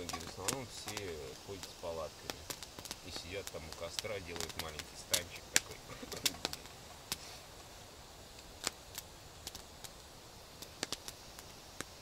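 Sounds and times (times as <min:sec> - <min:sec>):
campfire crackling and popping: 0:00.0 - 0:12.0
faint fire hiss: 0:00.0 - 0:12.0.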